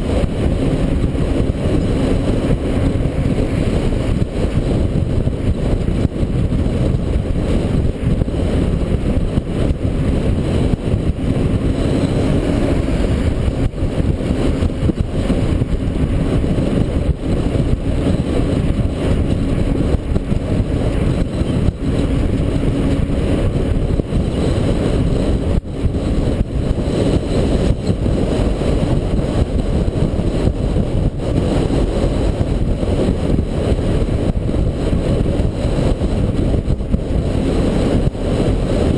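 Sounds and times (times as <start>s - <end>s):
diesel truck engine rumbling: 0.0s - 38.9s
road and wind noise: 0.0s - 38.9s.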